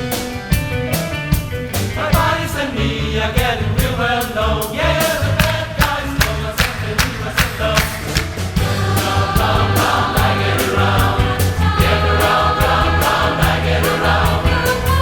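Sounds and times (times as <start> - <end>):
band drum beat and bass: 0.0 - 2.7, 3.4 - 15.0
choir singing pop songs: 1.8 - 15.0.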